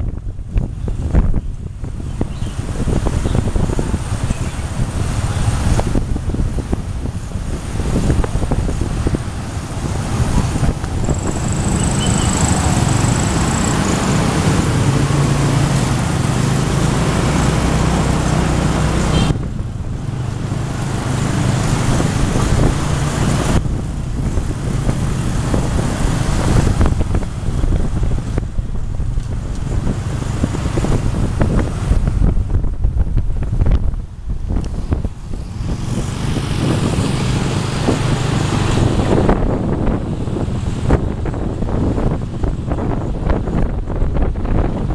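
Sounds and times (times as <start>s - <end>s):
wind noise on microphone: 0.0s - 44.9s.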